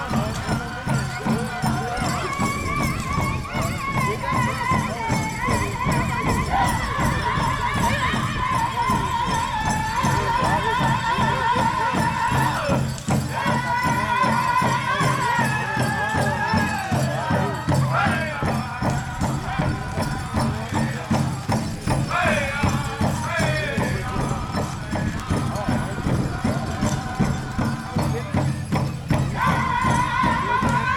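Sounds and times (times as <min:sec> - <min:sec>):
group singing in high voices: 0:00.0 - 0:30.9
large drum beating: 0:00.0 - 0:30.9.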